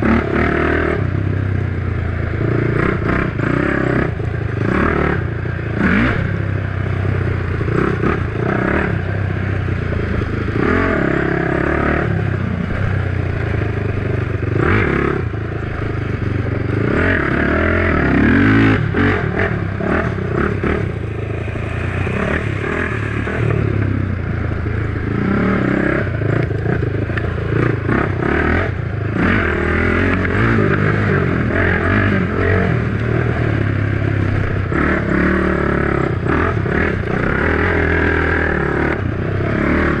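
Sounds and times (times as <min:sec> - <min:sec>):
quad engine revving: 0:00.0 - 0:40.0.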